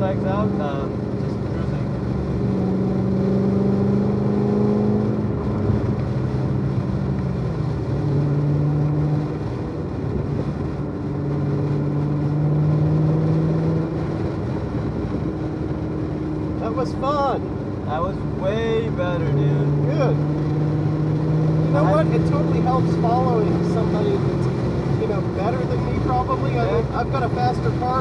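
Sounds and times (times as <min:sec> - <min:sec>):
car engine at low revs: 0:00.0 - 0:28.0
road and tyre noise: 0:00.0 - 0:28.0.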